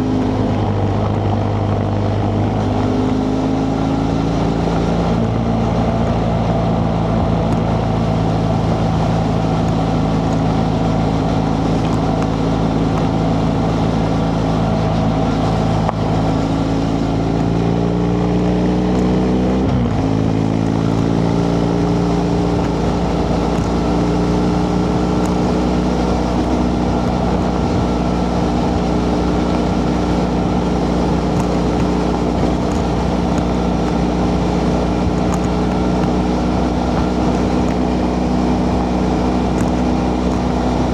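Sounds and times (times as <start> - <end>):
motorcycle engine running: 0.0 - 40.9
road noise: 0.0 - 40.9
wind noise: 0.0 - 40.9.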